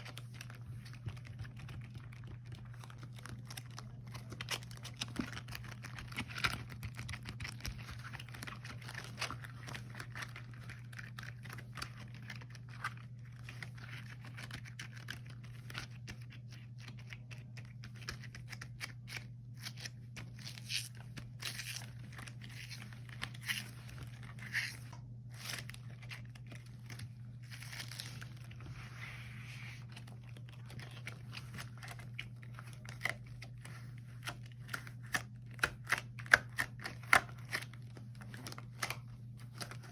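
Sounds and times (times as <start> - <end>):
rubber gloves crinkling: 0.0 - 39.9.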